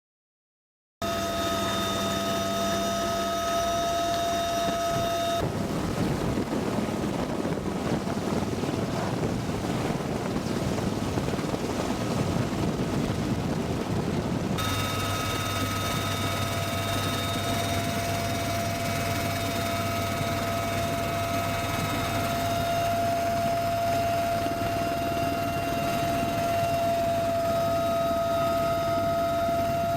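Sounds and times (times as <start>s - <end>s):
helicopter turbine whine: 1.0s - 12.0s, 14.6s - 29.9s
rotor wash and wind rushing: 1.0s - 29.9s.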